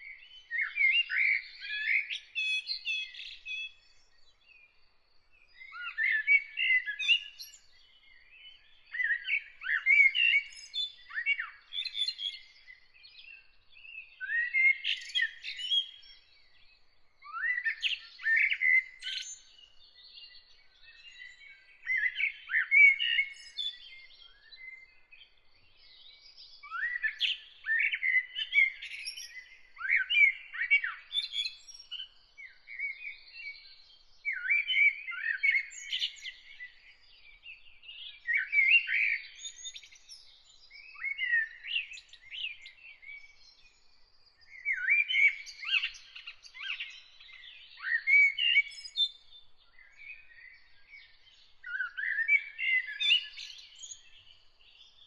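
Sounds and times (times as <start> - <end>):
songbirds warbling and chirping: 0.0 - 55.0.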